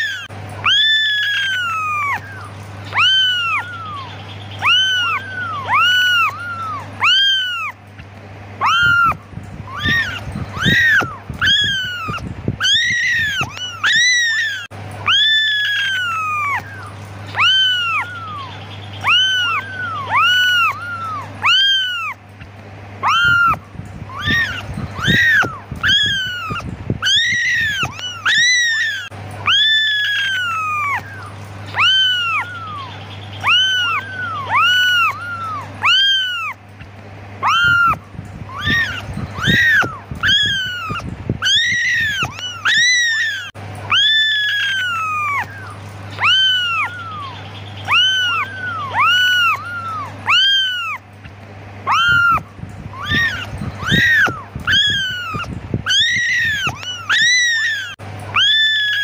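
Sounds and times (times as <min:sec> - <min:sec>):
kittens mewing: 0:00.0 - 0:59.0
steady low hum: 0:00.0 - 0:59.0.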